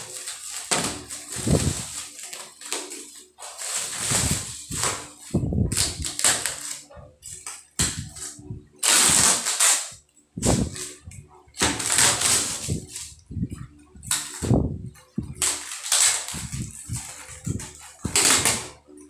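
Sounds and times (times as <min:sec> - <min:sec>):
tape straps cut and pulled: 0:00.0 - 0:11.0, 0:11.6 - 0:13.2, 0:15.3 - 0:18.8
plastic wrap rustling: 0:00.0 - 0:19.0.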